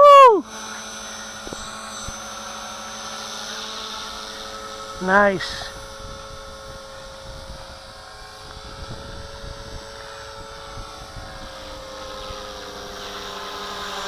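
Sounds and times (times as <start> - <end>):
rc helicopter motor and rotors whining: 0.0 - 14.0.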